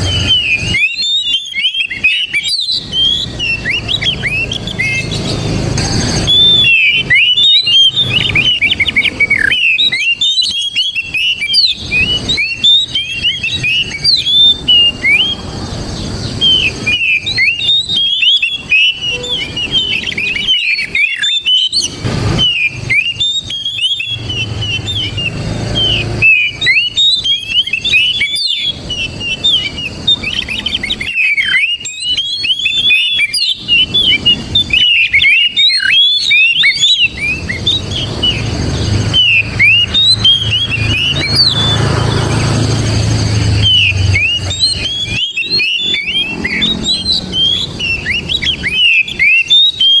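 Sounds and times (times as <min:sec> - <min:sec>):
bird singing whistled notes: 0:00.0 - 0:50.0.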